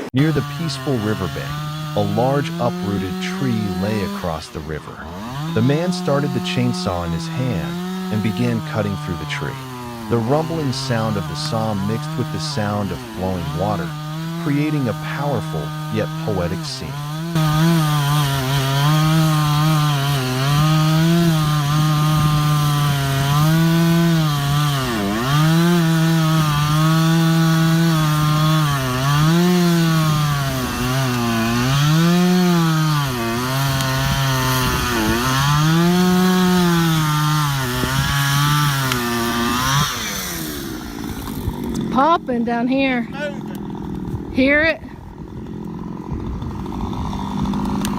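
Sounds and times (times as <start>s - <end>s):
chainsaw cutting tree trunk: 0.0s - 47.9s.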